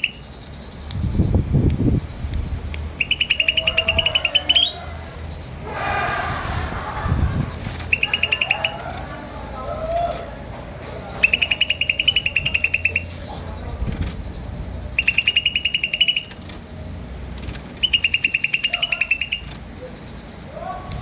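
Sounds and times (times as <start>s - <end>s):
bird rapid high chirps: 0.0s - 9.3s, 11.0s - 17.0s, 17.7s - 20.9s
low gliding bird notes: 0.0s - 10.4s, 11.0s - 21.0s.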